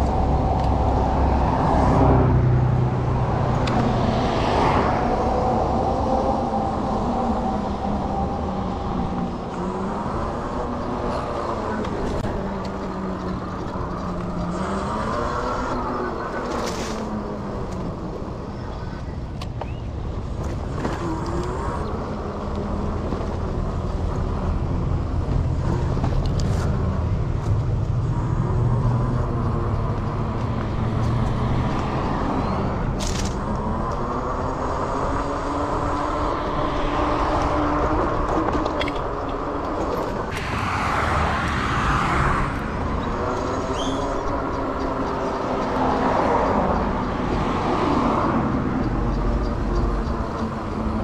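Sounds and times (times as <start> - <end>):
wind and road noise: 0.0 - 51.0.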